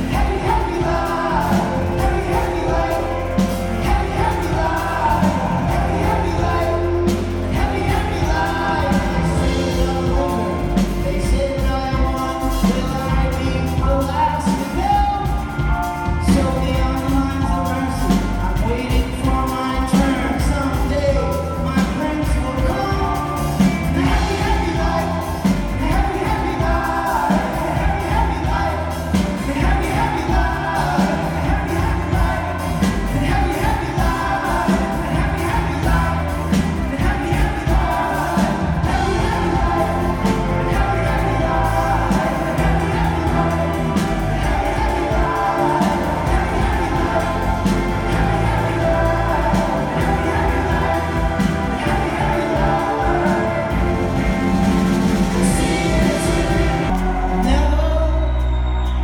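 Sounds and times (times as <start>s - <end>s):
live rock band: 0.0s - 59.0s
person singing: 0.0s - 59.0s.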